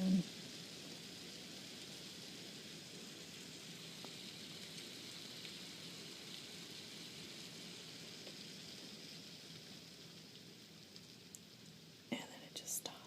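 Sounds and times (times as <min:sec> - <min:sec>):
hail falling: 0:00.0 - 0:12.8.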